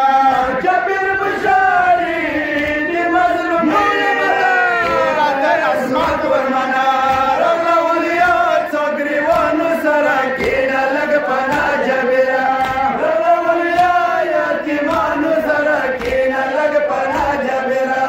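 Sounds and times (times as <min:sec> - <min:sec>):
man chanting a lament: 0:00.0 - 0:18.0.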